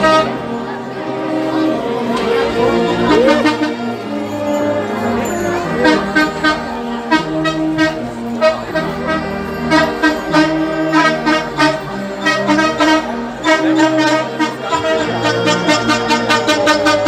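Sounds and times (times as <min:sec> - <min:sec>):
brass band music: 0:00.0 - 0:17.0.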